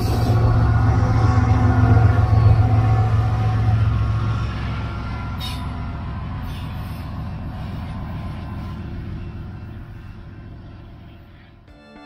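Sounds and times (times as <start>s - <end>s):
train wheel noise: 0.0s - 11.7s
diesel locomotive engine drone: 0.0s - 12.0s.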